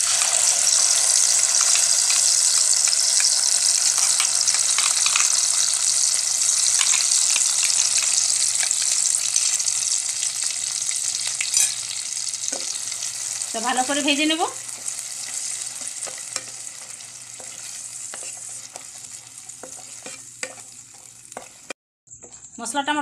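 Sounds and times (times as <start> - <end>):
paste sizzling in hot oil: 0.0 - 22.4.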